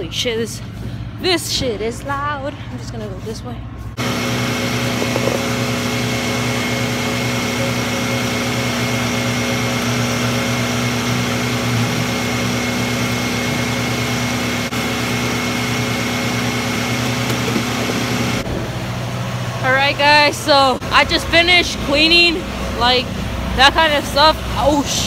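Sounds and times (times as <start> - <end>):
loud machinery running: 3.8 - 25.0.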